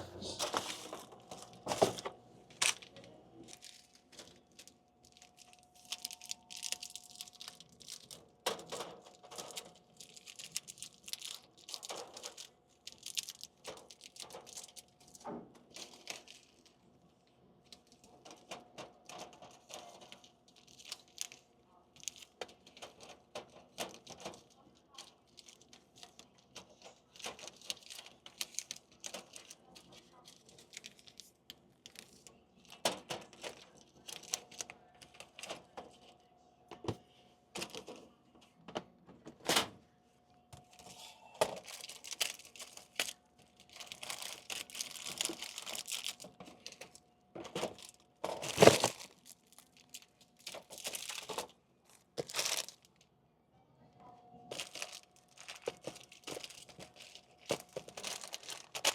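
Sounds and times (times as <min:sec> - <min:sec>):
plastic wrappers crinkling: 0:00.2 - 0:16.9, 0:17.6 - 0:36.1, 0:40.6 - 0:53.0, 0:54.5 - 0:58.9.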